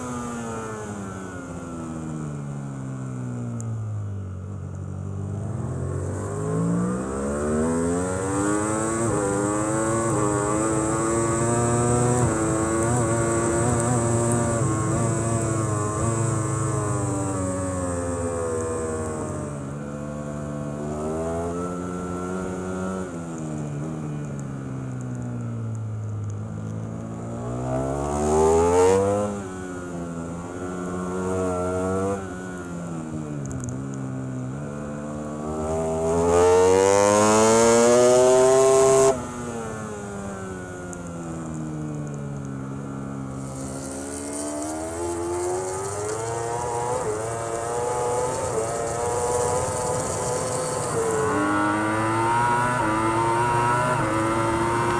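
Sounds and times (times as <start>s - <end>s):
motorcycle engine revving: 5.1s - 24.4s, 26.5s - 40.7s, 42.1s - 54.9s.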